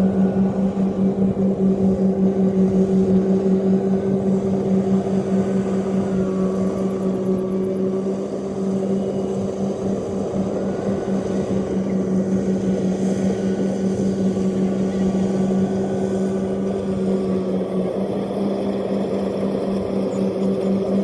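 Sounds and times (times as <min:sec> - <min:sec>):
harvester engine running: 0:00.0 - 0:21.0.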